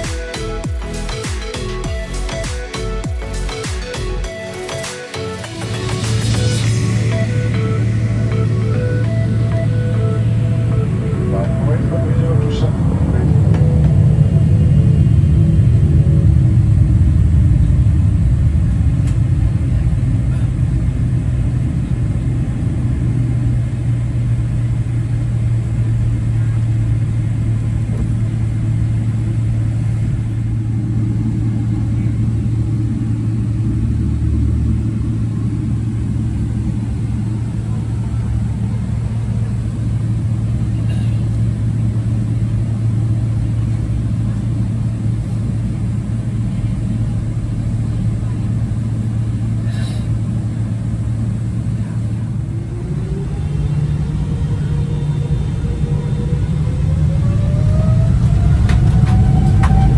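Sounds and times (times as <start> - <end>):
aircraft engine hum: 0.0 - 59.9
low rumble: 0.0 - 59.9.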